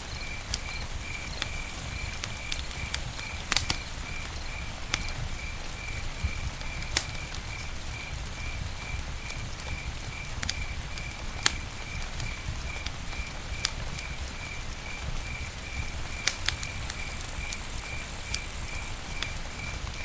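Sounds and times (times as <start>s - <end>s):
campfire crackling and popping: 0.0s - 20.0s
cricket chirping: 0.0s - 20.0s.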